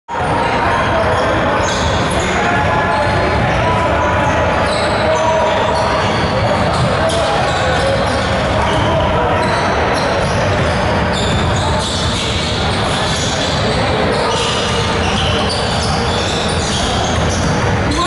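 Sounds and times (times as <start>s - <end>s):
players' voices: 0.1s - 18.0s
shoe squeaks: 0.2s - 18.0s.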